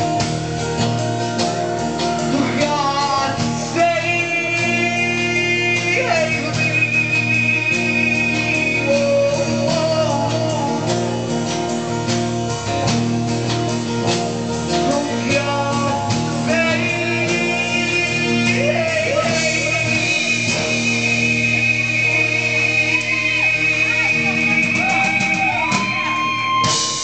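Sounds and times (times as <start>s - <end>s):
drums: 0.0s - 27.0s
held instrument notes: 0.0s - 27.0s
person singing: 1.7s - 12.0s, 14.7s - 27.0s.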